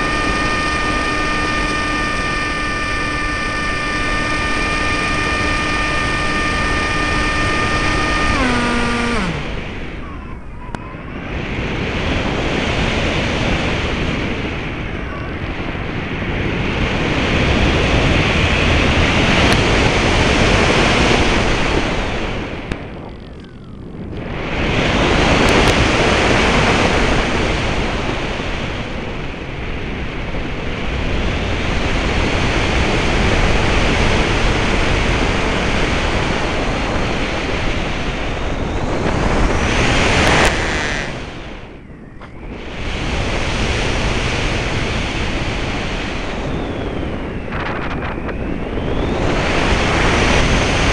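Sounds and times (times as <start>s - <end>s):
wind noise roaring: 0.0s - 50.9s.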